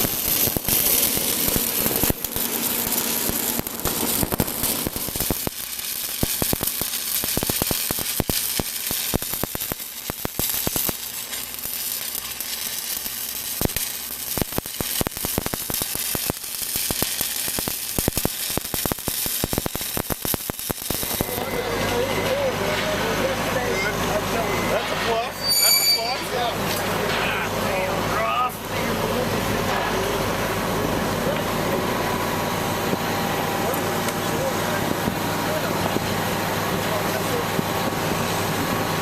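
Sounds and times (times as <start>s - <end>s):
arc welding crackling sizzle: 0.0s - 39.0s.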